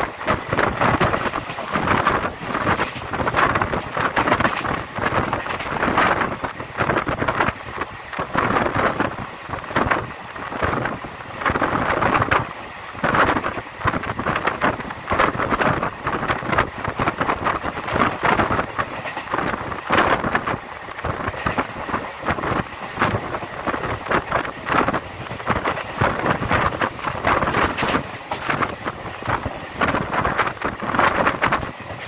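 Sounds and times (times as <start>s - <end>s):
train wheels rumbling on rail: 0.0s - 32.0s
wind rushing in at window: 0.0s - 32.0s.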